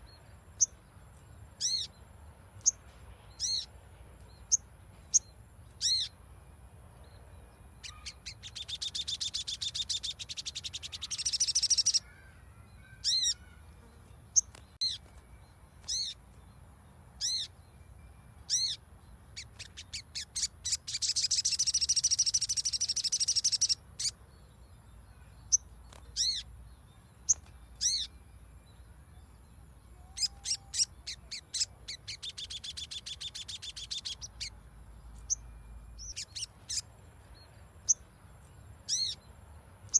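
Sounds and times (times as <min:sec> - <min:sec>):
bird high chirps: 0:00.0 - 0:06.2, 0:07.0 - 0:39.9.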